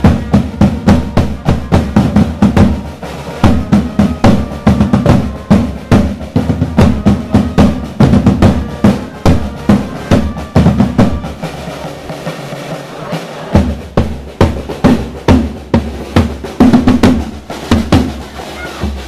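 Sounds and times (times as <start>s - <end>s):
marching snare and bass drums: 0.0s - 19.0s.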